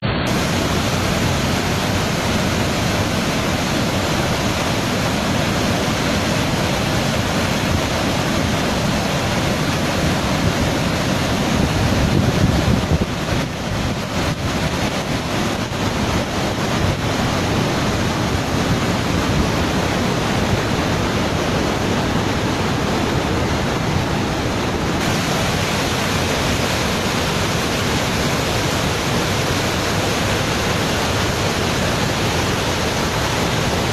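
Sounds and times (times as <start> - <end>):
waterfall roar: 0.0 - 33.9.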